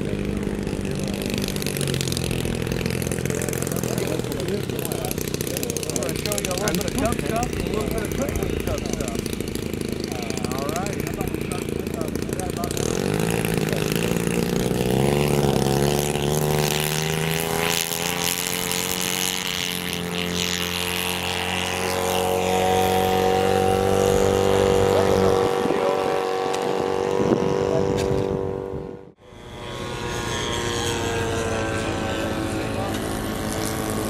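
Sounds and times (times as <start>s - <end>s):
model airplane engine running: 0.0s - 34.0s
twin model plane engines on ground: 0.0s - 34.0s.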